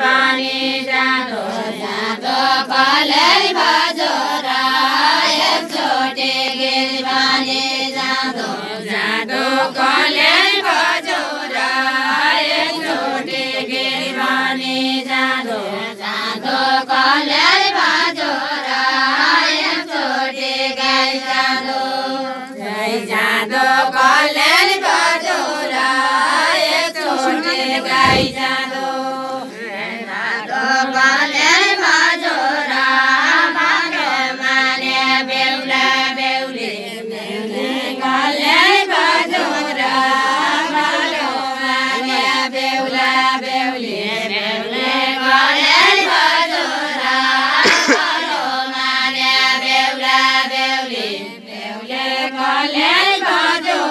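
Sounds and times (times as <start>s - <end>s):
women singing in unison: 0.0s - 53.9s.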